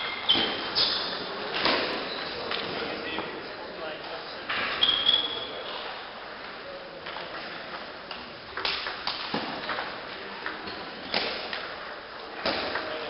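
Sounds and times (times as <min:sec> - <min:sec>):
sports hall background noise: 0:00.0 - 0:13.0.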